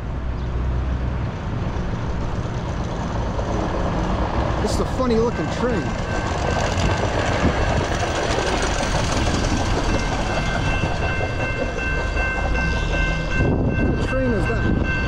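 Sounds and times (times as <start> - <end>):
truck rumbling on rails: 0.0 - 15.0.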